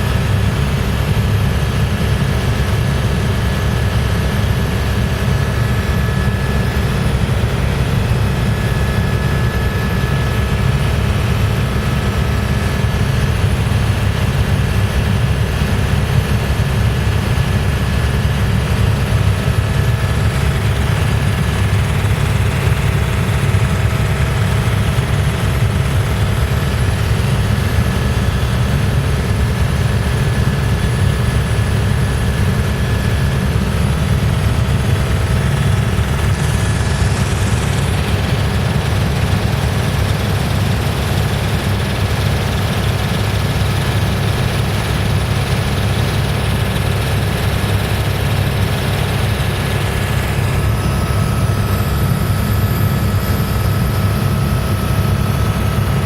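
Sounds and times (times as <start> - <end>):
helicopter rotor and engine drone: 0.0 - 56.0.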